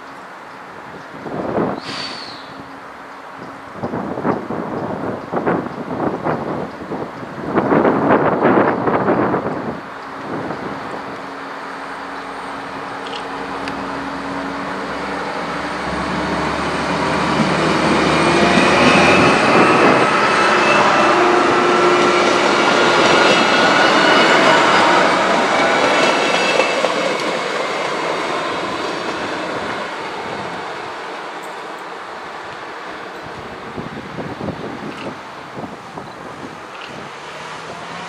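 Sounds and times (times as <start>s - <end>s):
diesel train passing: 0.0s - 38.0s.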